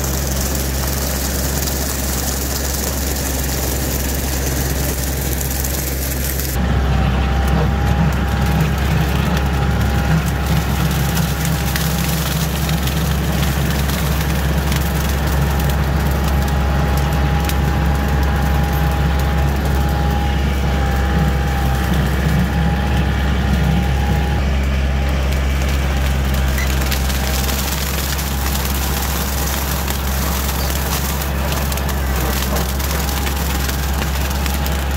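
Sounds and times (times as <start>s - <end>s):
rotary cutter mowing brush: 0.0s - 34.9s
tractor diesel engine under load: 0.0s - 34.9s.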